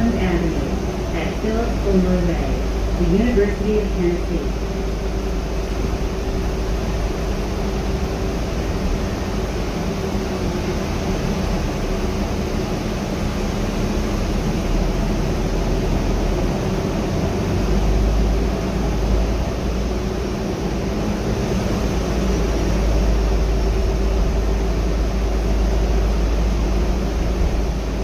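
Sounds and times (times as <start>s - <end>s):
bus drivetrain hum: 0.0s - 28.0s
road noise: 0.0s - 28.0s.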